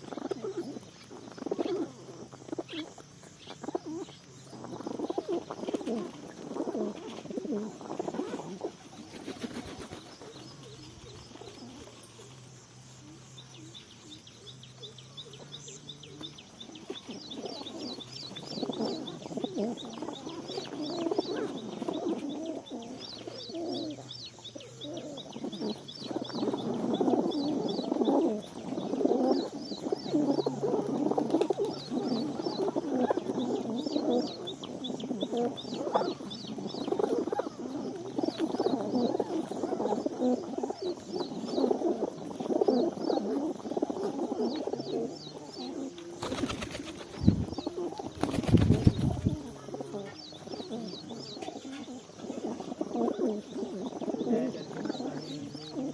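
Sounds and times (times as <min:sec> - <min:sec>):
pigeons cooing: 0:00.0 - 0:55.9
small birds chirping: 0:00.0 - 0:55.9.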